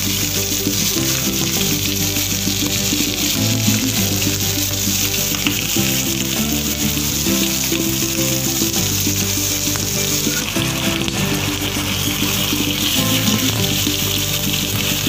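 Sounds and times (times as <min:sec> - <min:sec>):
background music: 0:00.0 - 0:15.0
fish sizzling in oil: 0:00.0 - 0:15.0.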